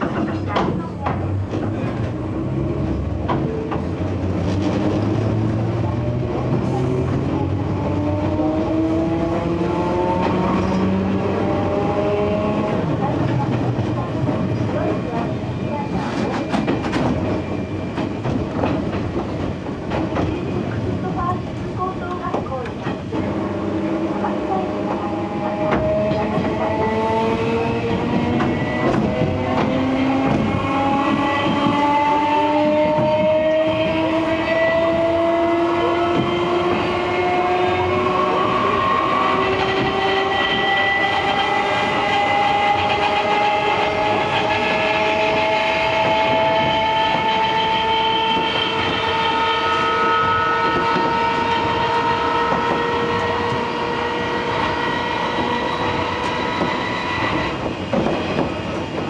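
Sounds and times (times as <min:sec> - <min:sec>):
train running gear rumble: 0:00.0 - 0:59.0.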